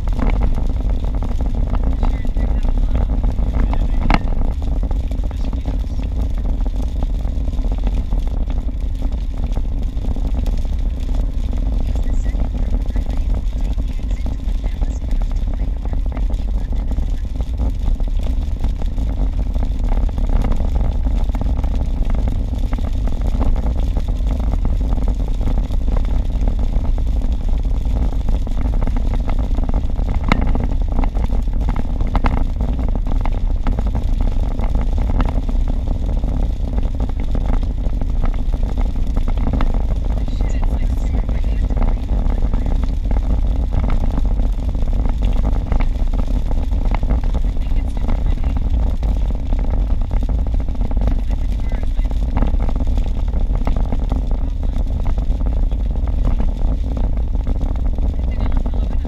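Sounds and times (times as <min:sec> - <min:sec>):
car engine: 0:00.0 - 0:59.0
tyre and road noise: 0:00.0 - 0:59.0.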